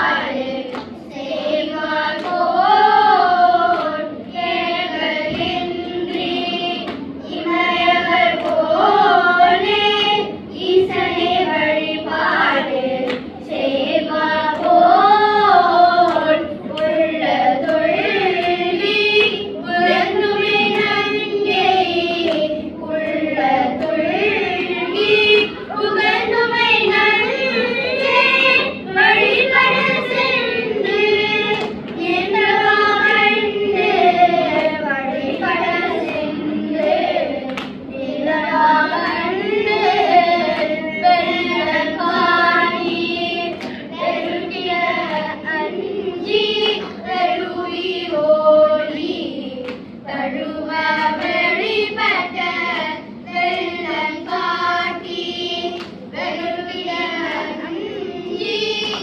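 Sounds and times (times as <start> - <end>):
children singing a hymn: 0.0 - 59.0.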